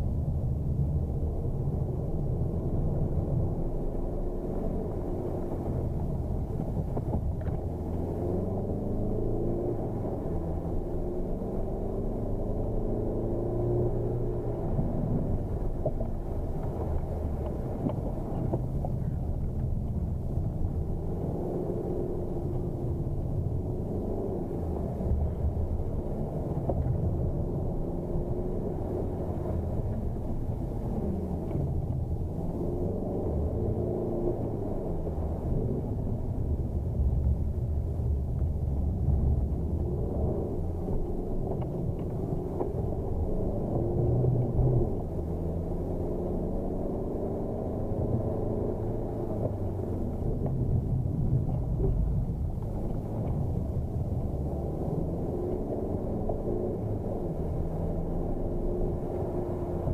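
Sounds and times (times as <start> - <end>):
low road rumble: 0.0 - 59.9.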